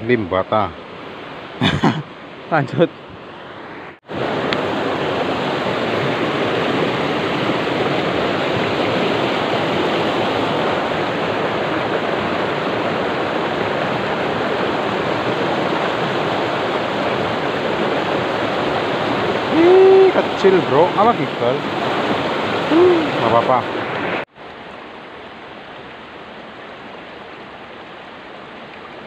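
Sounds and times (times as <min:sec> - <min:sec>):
water rushing over rocks: 0:00.0 - 0:29.0.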